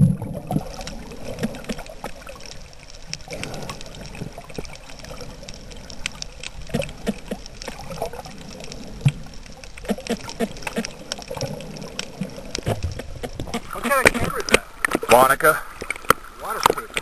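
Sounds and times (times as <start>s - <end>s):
water gurgling and bubbling: 0.0s - 17.0s
sharp underwater clicks: 0.4s - 17.0s.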